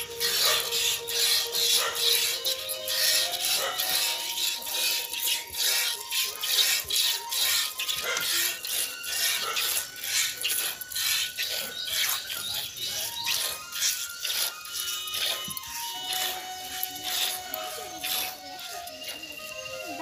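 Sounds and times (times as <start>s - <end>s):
milk squirting: 0.0s - 20.0s.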